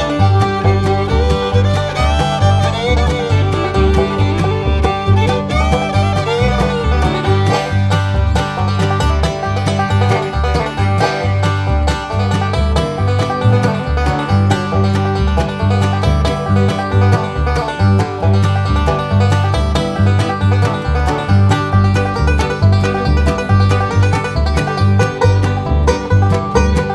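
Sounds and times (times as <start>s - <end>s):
upbeat bluegrass music: 0.0s - 26.9s.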